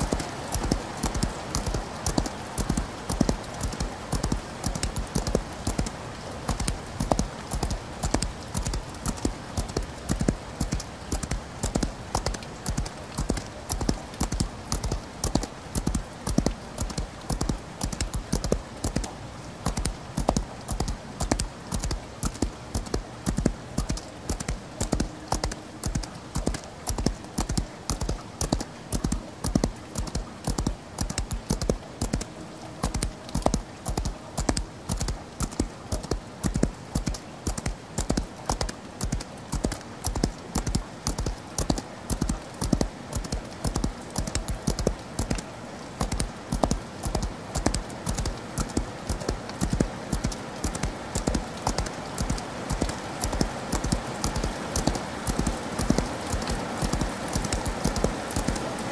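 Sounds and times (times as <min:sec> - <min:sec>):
horse hoofbeats galloping: 0:00.0 - 0:45.4, 0:46.0 - 0:58.9
rain hiss: 0:00.0 - 0:58.9.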